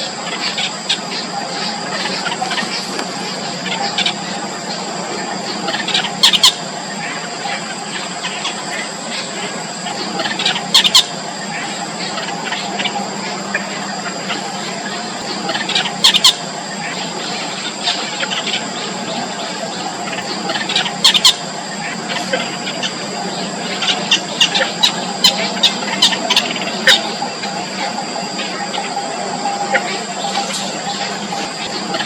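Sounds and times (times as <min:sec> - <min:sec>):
bird chicks calling: 0:00.0 - 0:32.0
loud double squawks: 0:00.0 - 0:32.0
steady high hum: 0:00.0 - 0:32.0.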